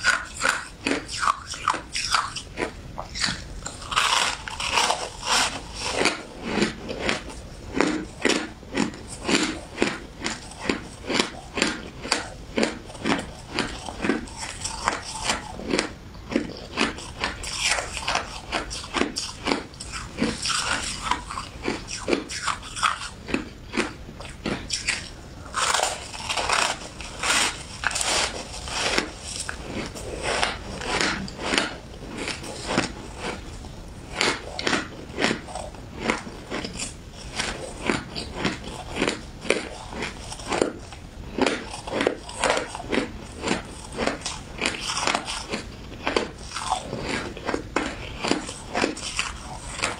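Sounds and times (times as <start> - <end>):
chewing ice crunches: 0.0 - 49.9.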